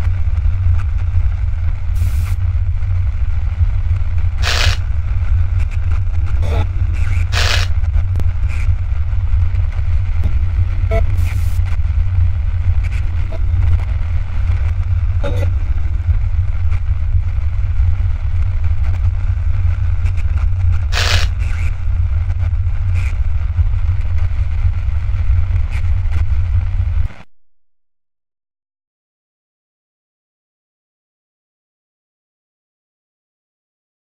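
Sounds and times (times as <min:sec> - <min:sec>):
deep earthquake rumble: 0:00.0 - 0:27.2.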